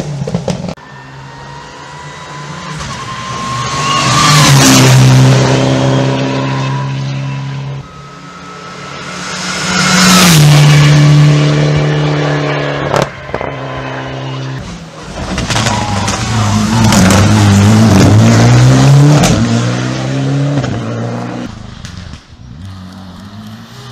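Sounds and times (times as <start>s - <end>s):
rally car passing at high revs: 0.0s - 23.9s.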